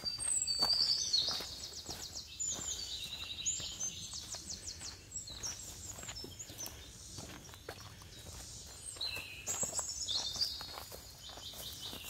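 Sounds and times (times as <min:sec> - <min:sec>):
footsteps crunching on gravel: 0:00.0 - 0:12.0.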